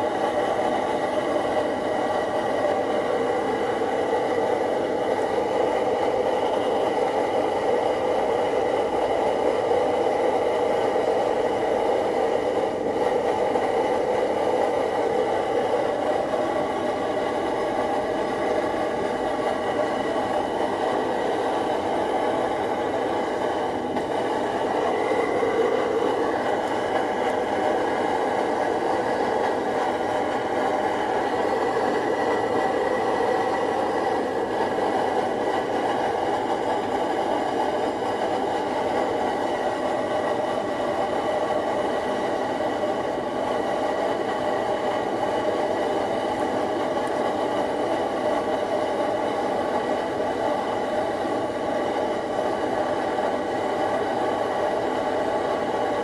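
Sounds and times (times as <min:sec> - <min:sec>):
camping stove burning: 0:00.0 - 0:56.0
faint steady hum: 0:00.0 - 0:56.0.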